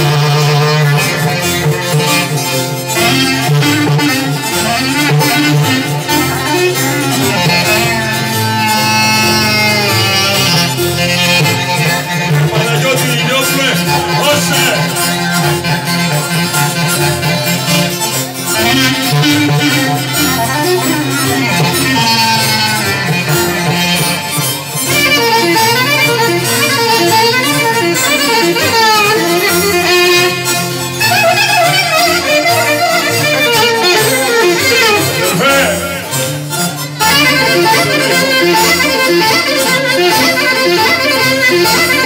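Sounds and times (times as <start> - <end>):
folk dance music over pa: 0.0 - 42.0
guitar: 0.0 - 42.0
ornamented clarinet melody: 0.0 - 42.0.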